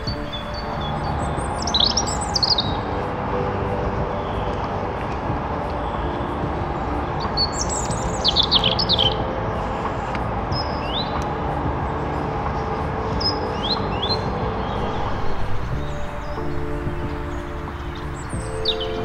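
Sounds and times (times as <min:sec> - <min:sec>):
songbirds twittering: 0:00.0 - 0:19.0.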